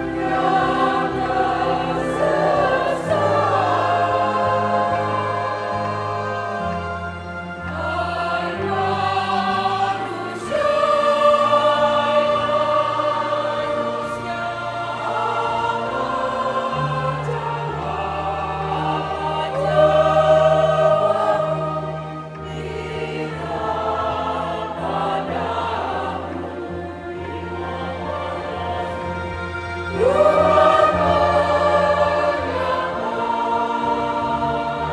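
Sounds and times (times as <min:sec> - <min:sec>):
choir singing a hymn: 0:00.0 - 0:34.9
low accompanying notes: 0:00.0 - 0:34.9.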